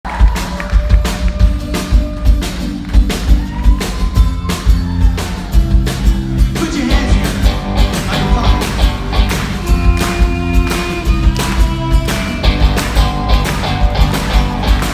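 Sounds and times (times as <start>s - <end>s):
rock band playing live: 0.1s - 14.9s.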